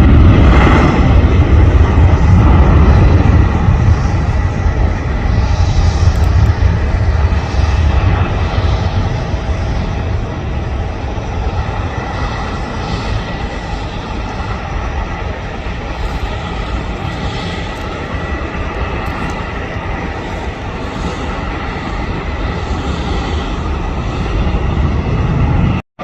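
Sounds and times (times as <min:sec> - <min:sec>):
jet engines rumbling and whining: 0:00.0 - 0:26.0.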